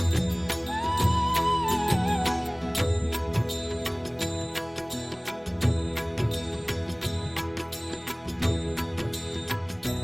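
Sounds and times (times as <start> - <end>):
background music with chords: 0.0 - 10.0
light percussion strikes: 0.0 - 10.0.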